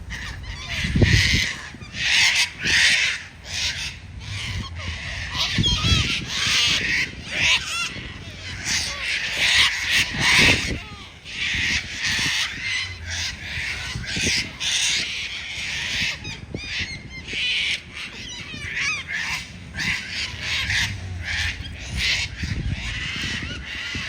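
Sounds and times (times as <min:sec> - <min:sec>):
cockatoos screeching: 0:00.0 - 0:24.0.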